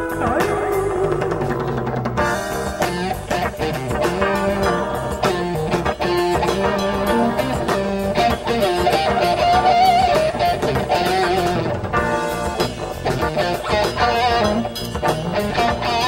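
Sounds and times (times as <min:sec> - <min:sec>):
bent lead guitar note: 0:00.0 - 0:16.0
rock band playing: 0:00.0 - 0:16.0.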